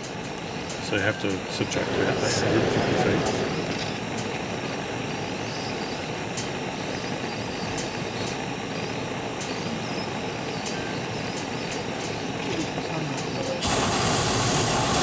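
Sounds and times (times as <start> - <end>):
propane burner rushing: 0.0 - 15.0.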